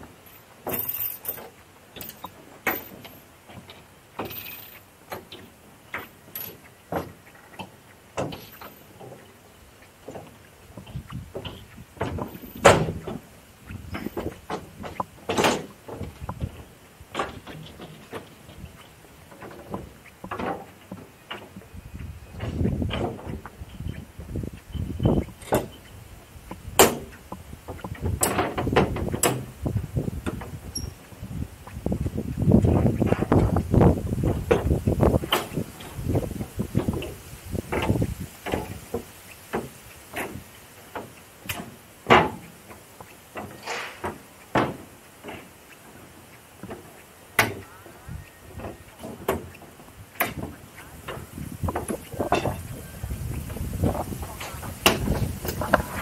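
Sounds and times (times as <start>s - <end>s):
footsteps on railway tracks: 0.0s - 56.0s.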